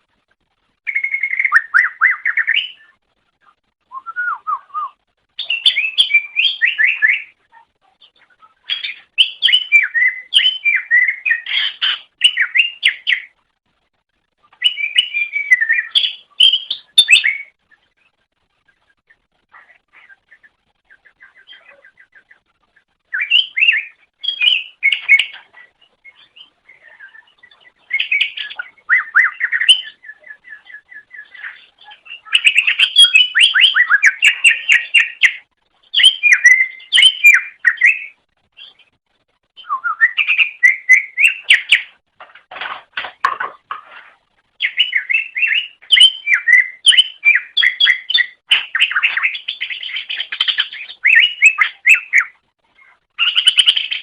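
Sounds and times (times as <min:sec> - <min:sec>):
bird chirping and trilling: 0:00.8 - 0:03.0, 0:04.0 - 0:13.4, 0:14.6 - 0:18.1, 0:19.5 - 0:38.9, 0:39.6 - 0:42.0, 0:44.6 - 0:54.0.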